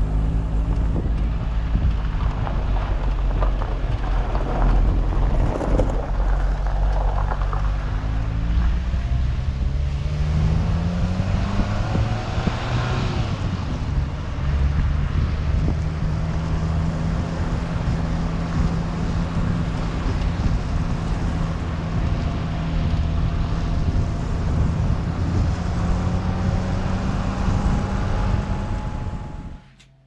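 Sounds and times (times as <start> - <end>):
car engine hum: 0.0 - 30.0
tyre and road noise: 0.0 - 30.0.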